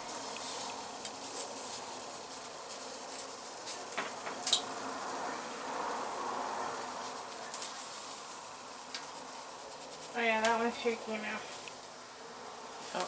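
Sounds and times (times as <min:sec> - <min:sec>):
vegetables sizzling on stove: 0:00.0 - 0:13.0.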